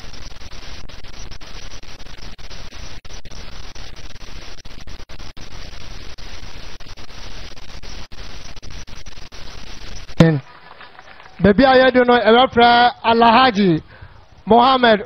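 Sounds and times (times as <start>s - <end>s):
static-like hiss: 0.0s - 15.0s.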